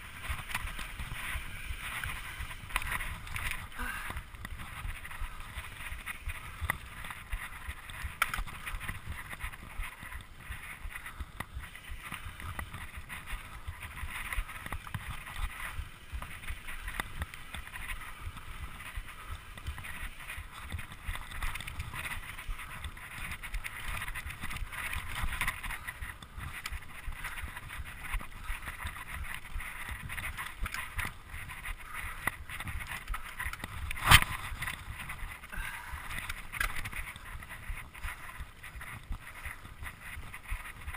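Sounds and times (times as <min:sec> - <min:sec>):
bike rattling: 0:00.0 - 0:40.9.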